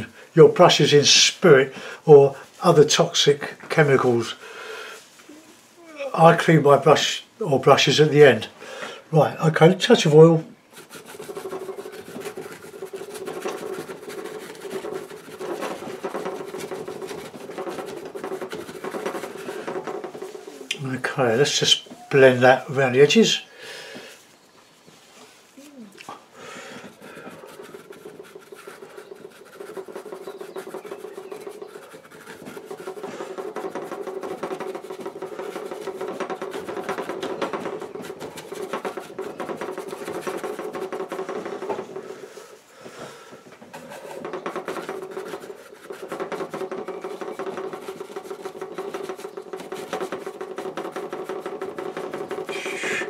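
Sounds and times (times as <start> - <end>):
bristle brush rubbing on board: 0.0 - 4.4, 9.3 - 23.4, 26.5 - 53.0.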